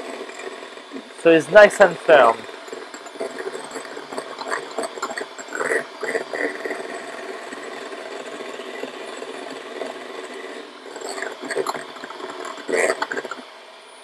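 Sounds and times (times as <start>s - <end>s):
electric hand mixer whisking: 0.0s - 13.8s.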